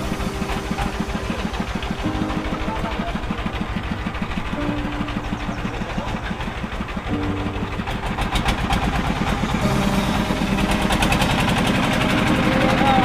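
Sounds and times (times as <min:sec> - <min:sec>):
small engine pulsing: 0:00.0 - 0:13.0.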